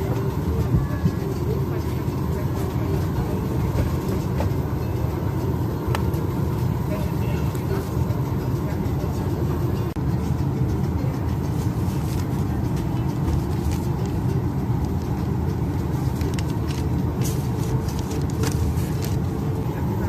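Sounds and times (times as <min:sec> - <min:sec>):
cabin air-conditioning rumble: 0:00.0 - 0:20.0.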